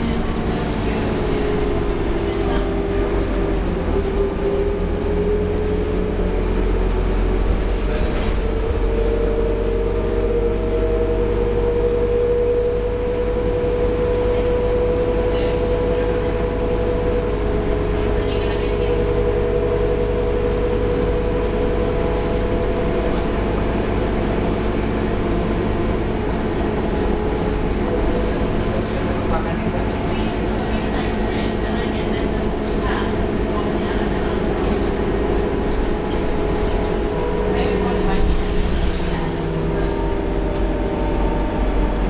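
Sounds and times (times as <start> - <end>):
bus engine drone with whine: 0.0 - 42.0.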